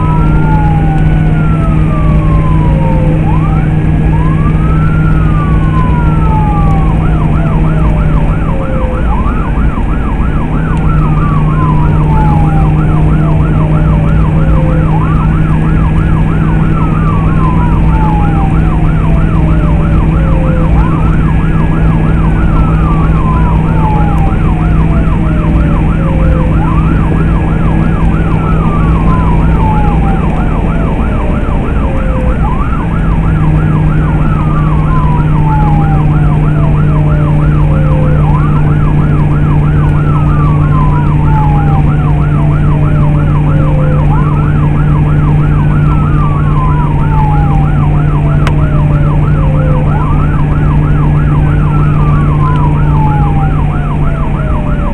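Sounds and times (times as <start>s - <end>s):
emergency siren yelp and wail: 0.0s - 54.9s
vehicle low drone: 0.0s - 54.9s.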